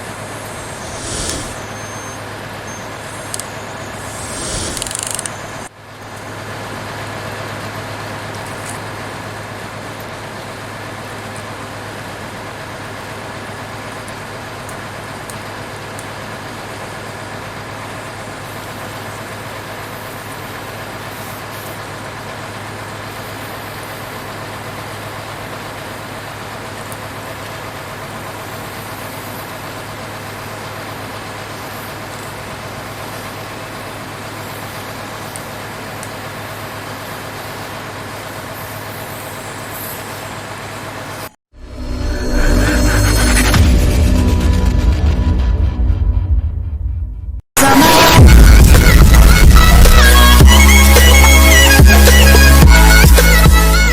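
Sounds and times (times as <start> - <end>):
truck engine droning: 0.0 - 53.9.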